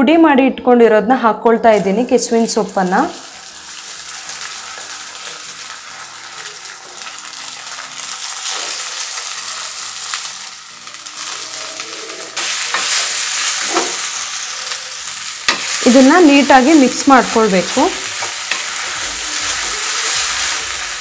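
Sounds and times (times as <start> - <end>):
food sizzling in oil: 1.8 - 21.0.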